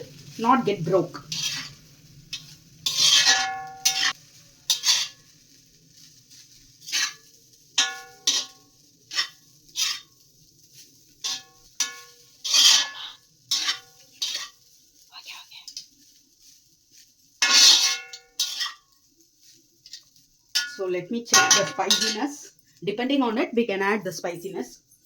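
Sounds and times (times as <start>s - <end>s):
metal spatula scraping a wok: 0.2s - 22.4s.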